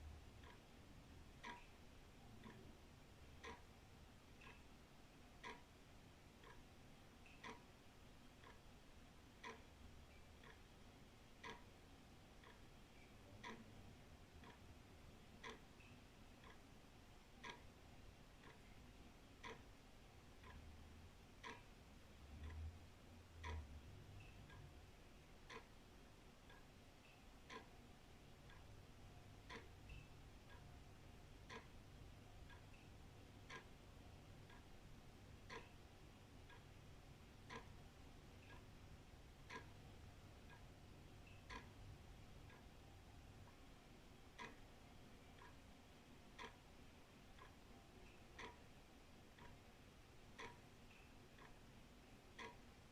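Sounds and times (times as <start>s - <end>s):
wall clock ticking: 0.0s - 52.9s.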